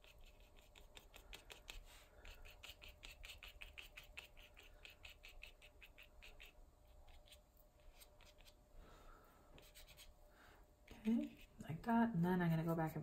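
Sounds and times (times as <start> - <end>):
brush scratching on paper: 0.0 - 8.6, 9.6 - 10.2, 10.9 - 11.6, 12.4 - 13.0.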